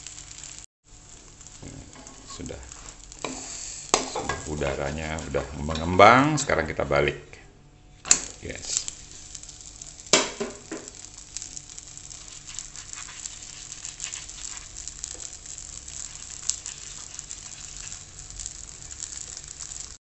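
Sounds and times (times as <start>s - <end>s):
flatbread sizzling in wok: 0.0s - 6.4s, 8.0s - 20.0s.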